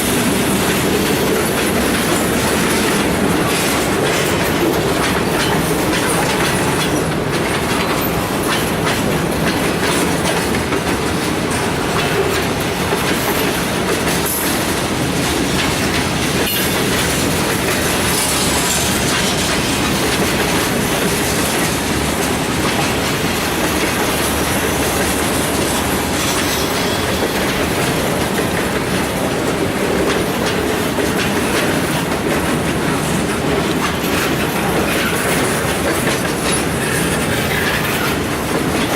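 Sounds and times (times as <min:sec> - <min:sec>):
train wheels clacking on rail joints: 0:00.0 - 0:38.9.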